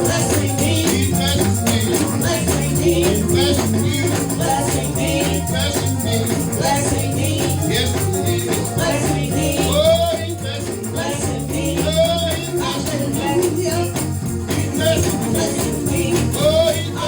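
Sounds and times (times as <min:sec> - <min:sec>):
bass notes: 0:00.0 - 0:17.0
rhythmic beat: 0:00.0 - 0:17.0
shaker rattle: 0:00.0 - 0:17.0
voices singing: 0:00.0 - 0:17.0.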